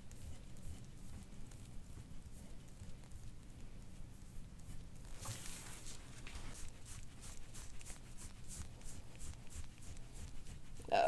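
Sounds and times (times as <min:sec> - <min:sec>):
rubbing strokes on skin: 0:00.0 - 0:11.0.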